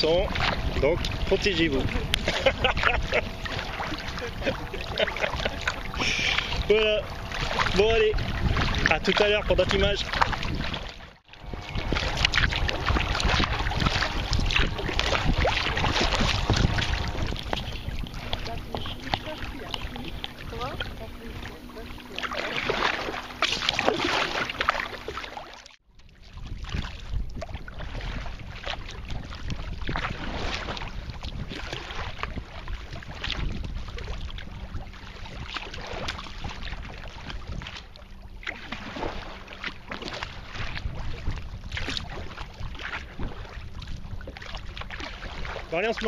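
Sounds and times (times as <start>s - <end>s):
wind rumble on microphone: 0.0s - 25.2s, 26.0s - 46.0s
kayak paddles swishing: 0.0s - 46.0s
water lapping on hulls: 0.0s - 46.0s.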